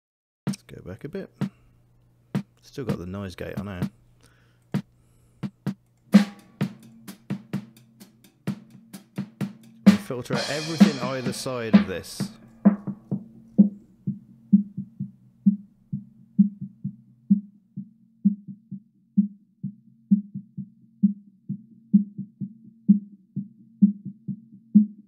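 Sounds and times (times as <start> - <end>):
muffled drum beat: 1.3 - 1.6, 2.4 - 4.0, 4.7 - 25.0.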